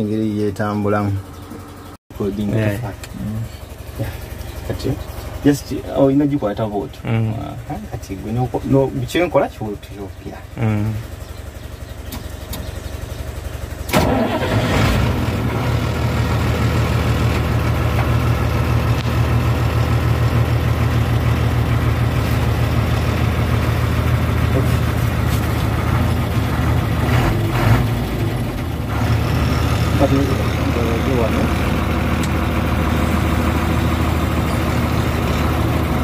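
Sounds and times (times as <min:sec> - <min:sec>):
diesel engine cranking and idling: 0:00.0 - 0:36.0.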